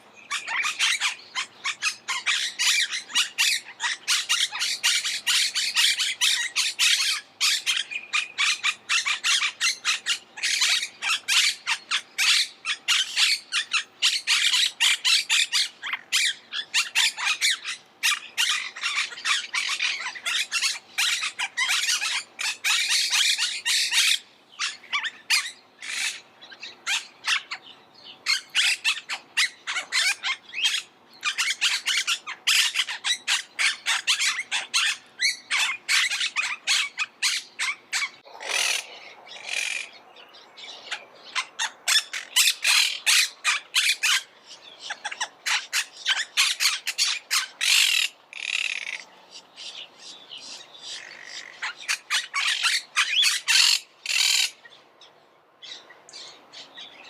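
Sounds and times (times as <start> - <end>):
parakeets calling: 0.2 - 57.0.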